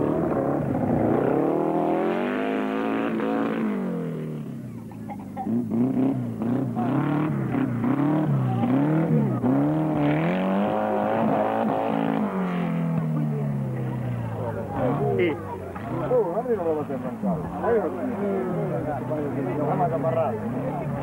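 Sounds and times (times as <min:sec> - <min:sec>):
race car engine revving: 0:00.0 - 0:04.7, 0:05.4 - 0:21.0.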